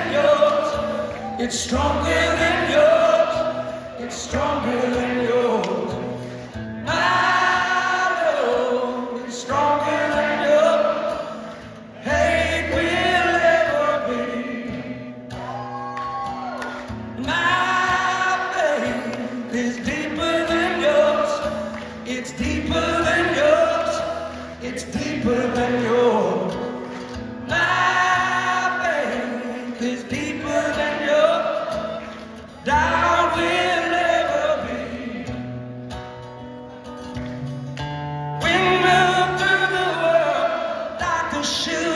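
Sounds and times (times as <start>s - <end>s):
man singing: 0.0s - 15.1s, 17.2s - 26.9s, 27.5s - 35.3s, 38.4s - 41.9s
acoustic guitar: 0.0s - 41.9s.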